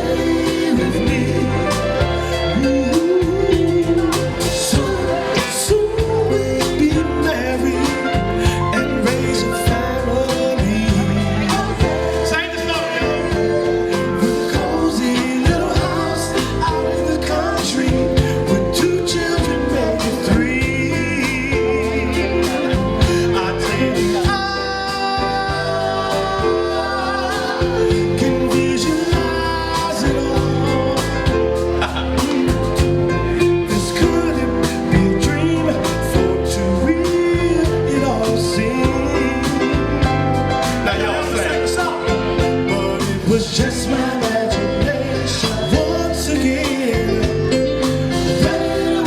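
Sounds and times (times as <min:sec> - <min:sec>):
person singing: 0:00.0 - 0:49.0
soul band playing: 0:00.0 - 0:49.0
steady drum beat: 0:00.0 - 0:49.0
wavering lead melody: 0:00.0 - 0:49.0.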